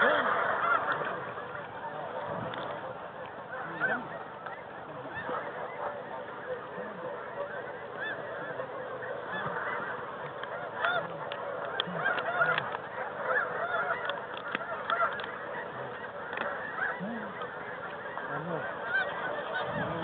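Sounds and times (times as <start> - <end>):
geese honking chorus: 0.0 - 20.0.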